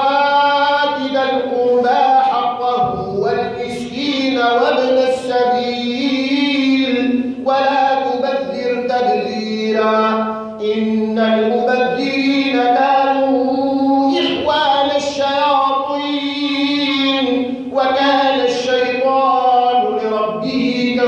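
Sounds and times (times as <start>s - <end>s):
man chanting melodically: 0.0s - 21.0s.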